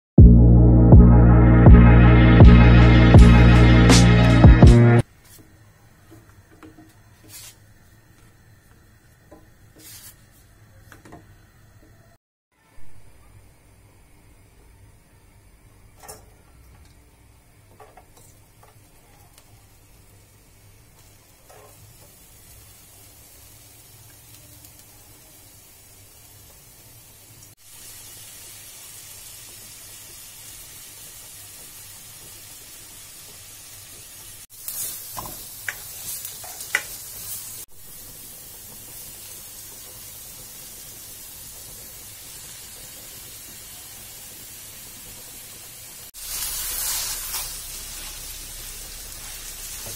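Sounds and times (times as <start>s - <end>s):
vegetables sizzling in hot oil: 5.0s - 11.7s, 14.0s - 49.9s.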